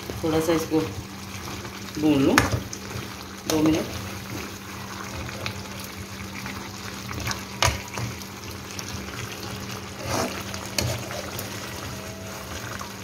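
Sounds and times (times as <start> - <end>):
food sizzling and bubbling: 0.0 - 13.0.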